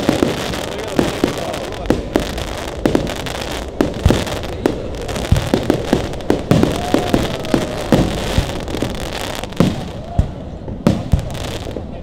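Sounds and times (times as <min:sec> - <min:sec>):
distant fireworks bursts: 0:00.0 - 0:12.0
fireworks bangs: 0:00.0 - 0:12.0.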